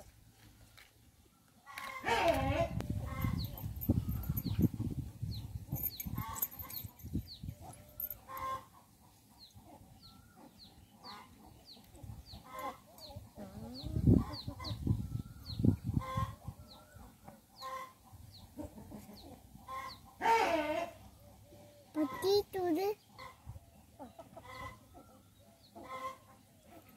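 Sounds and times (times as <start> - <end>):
chickens clucking: 1.6 - 26.9
chicks peeping: 1.8 - 20.4, 21.1 - 26.9.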